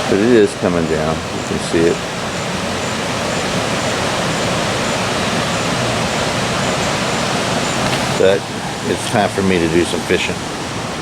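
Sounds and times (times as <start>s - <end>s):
creek water rushing: 0.0s - 11.0s
light rain on water: 0.0s - 11.0s.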